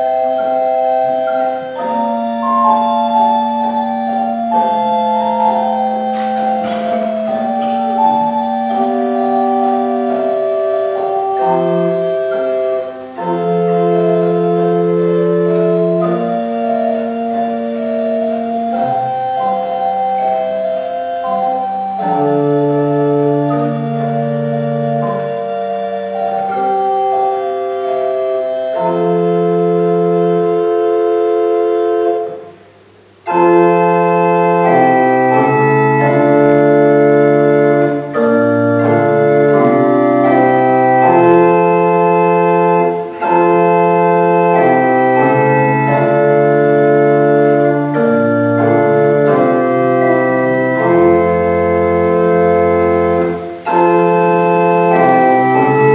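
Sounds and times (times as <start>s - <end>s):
organ playing hymn chords: 0.0s - 55.9s.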